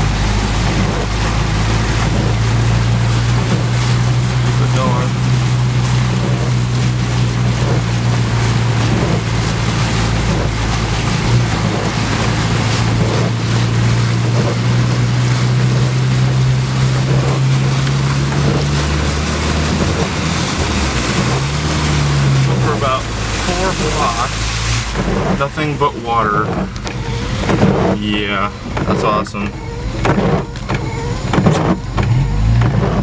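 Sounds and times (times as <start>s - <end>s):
engine running in low gear: 0.0s - 33.0s
water washing: 0.0s - 33.0s.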